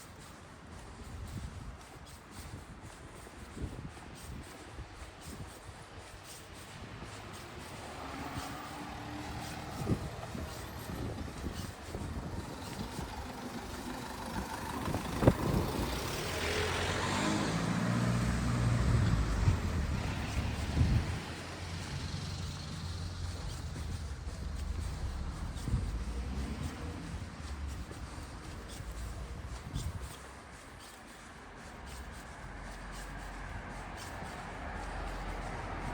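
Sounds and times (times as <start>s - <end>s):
motor vehicle passing: 6.6s - 35.9s.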